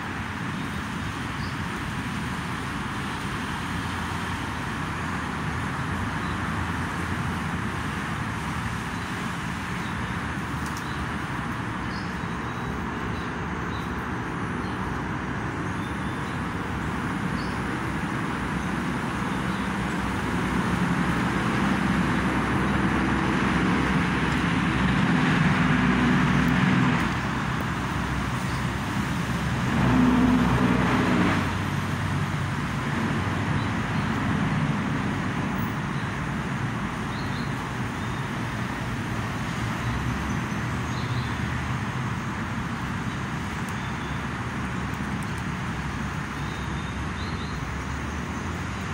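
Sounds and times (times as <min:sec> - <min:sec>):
hum of passing cars: 0:00.0 - 0:48.9.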